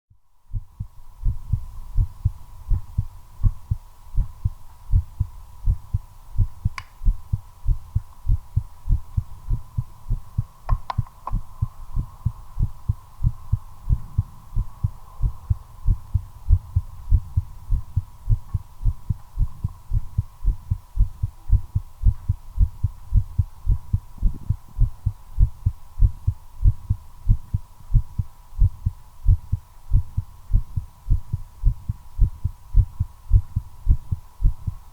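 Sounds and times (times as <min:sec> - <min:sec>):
steady high hum: 0:00.2 - 0:34.9
heartbeat thumps: 0:00.5 - 0:34.9.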